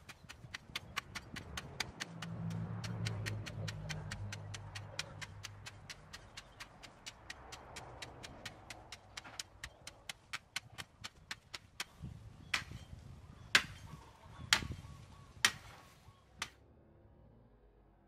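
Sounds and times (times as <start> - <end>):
hoe chopping into dry soil: 0.0 - 16.6.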